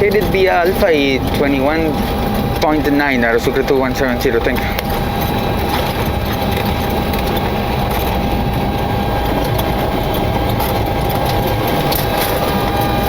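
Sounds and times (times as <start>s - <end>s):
high-pitched whine: 0.0s - 13.0s
jet engines idling: 0.0s - 13.0s.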